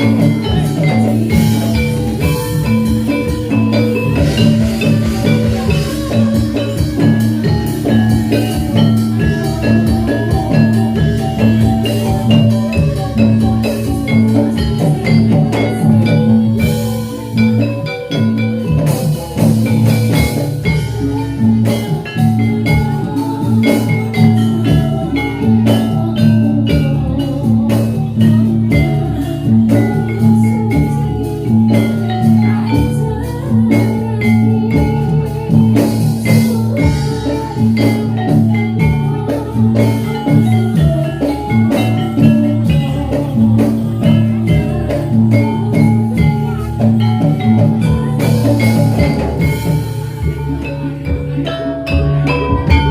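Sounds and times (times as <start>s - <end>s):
drums in steady rhythm: 0.0s - 52.9s
struck metallophones ringing: 0.0s - 52.9s.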